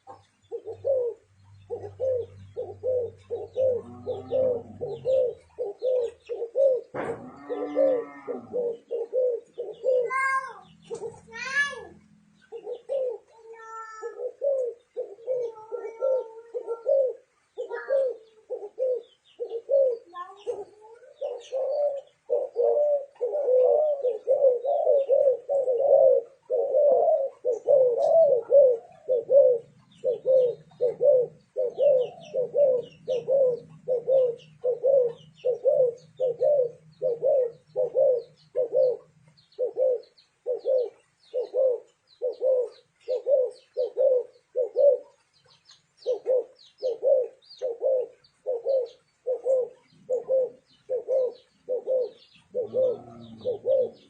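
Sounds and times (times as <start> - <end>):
doves cooing: 0.0 - 54.0
small birds chirping: 0.0 - 54.0.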